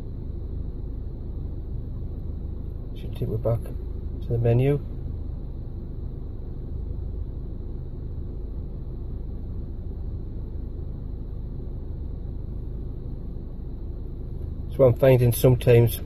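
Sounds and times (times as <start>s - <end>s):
low rumble in car cabin: 0.0s - 16.0s.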